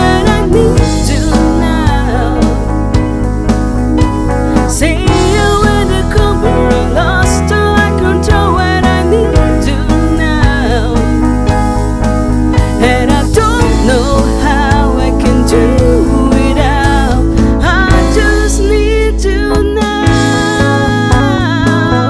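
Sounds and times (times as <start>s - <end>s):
band with guitar and bass: 0.0s - 22.0s
person singing: 0.0s - 22.0s.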